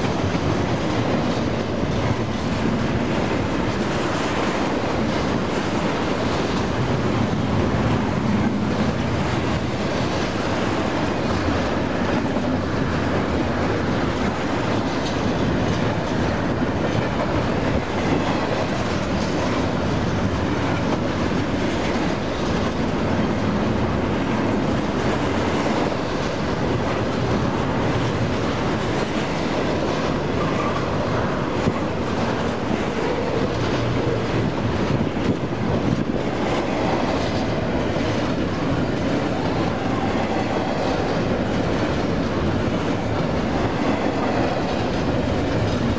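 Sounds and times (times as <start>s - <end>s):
steel train wheels on rail: 0.0s - 45.9s.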